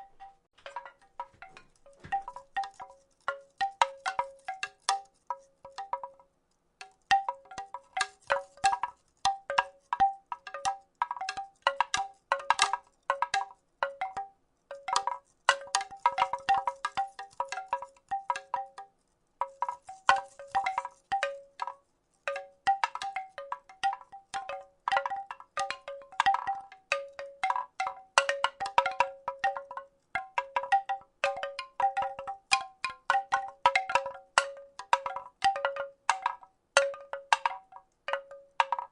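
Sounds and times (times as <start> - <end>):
wooden rattle clacking: 0.0 - 6.2, 6.8 - 38.9.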